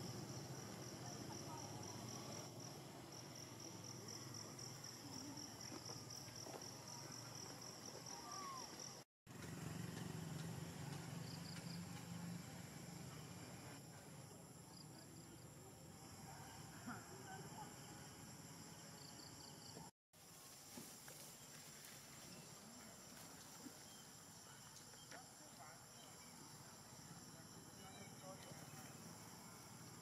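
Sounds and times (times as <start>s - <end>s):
faint outdoor ambience: 0.0s - 30.0s.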